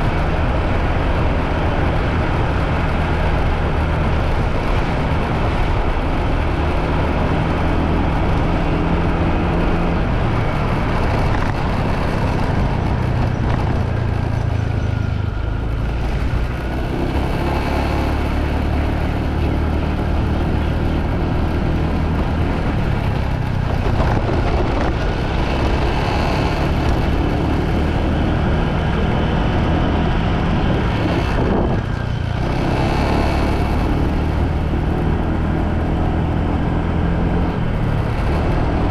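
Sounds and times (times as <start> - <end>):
motorbike engine and road noise: 0.0 - 38.9.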